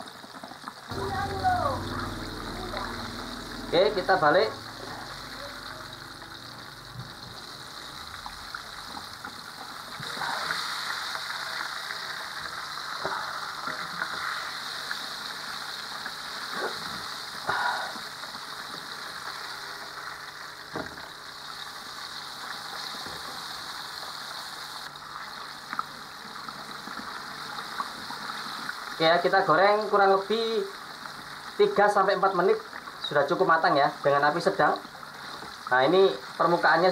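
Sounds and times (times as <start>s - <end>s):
oil sizzling and bubbling: 0.0s - 36.9s.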